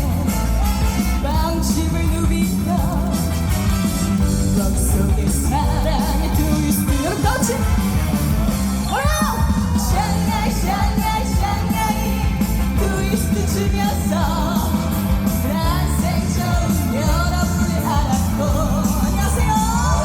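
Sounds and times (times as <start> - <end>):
woman singing: 0.0 - 8.0, 8.8 - 20.0
backing music with beat: 0.0 - 20.0.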